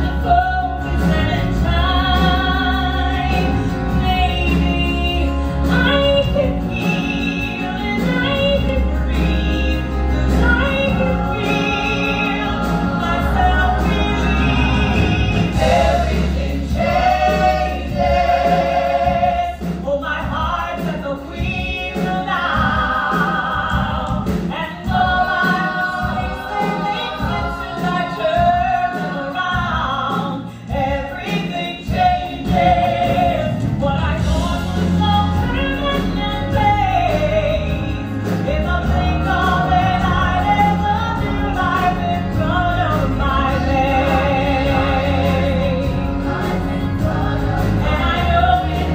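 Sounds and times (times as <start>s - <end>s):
band playing: 0.0s - 48.9s
steady bass line: 0.0s - 48.9s
voices singing together: 0.0s - 48.9s.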